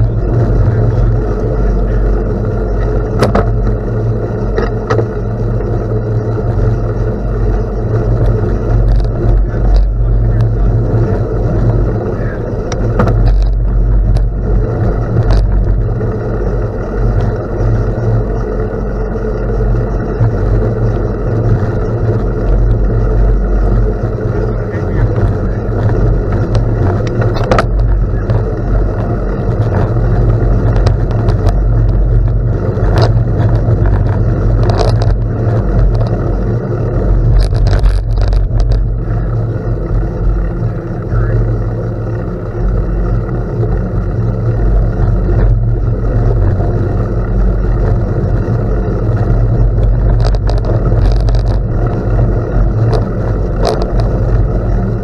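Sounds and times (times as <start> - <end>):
bike clicks and rattles: 0.0 - 55.0
tyres on gravel: 0.0 - 55.0
wind rumbling on microphone: 0.0 - 55.0.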